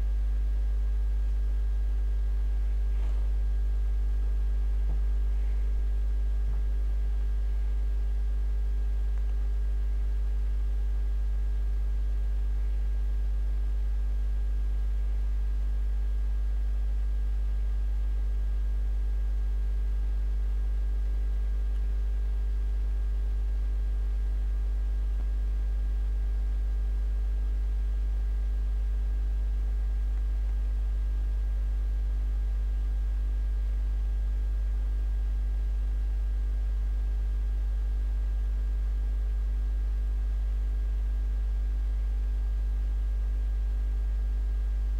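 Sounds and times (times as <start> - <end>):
low electrical hum: 0.0 - 44.9.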